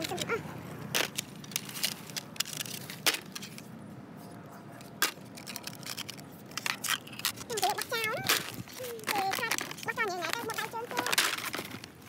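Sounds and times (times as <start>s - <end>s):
small hard objects clicking: 0.9s - 3.7s, 4.9s - 12.0s.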